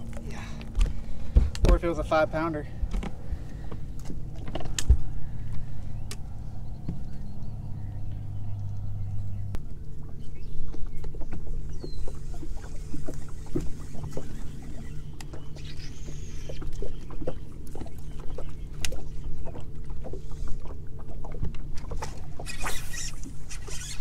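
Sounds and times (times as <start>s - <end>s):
electric trolling motor humming: 0.0s - 24.0s
water lapping against hull: 0.0s - 24.0s.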